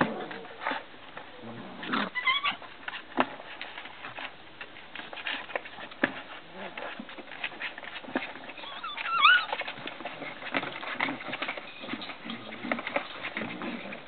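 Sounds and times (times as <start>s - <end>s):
puppy whining: 0.0s - 3.2s, 5.4s - 14.0s
puppies clicking and rustling: 0.0s - 14.0s.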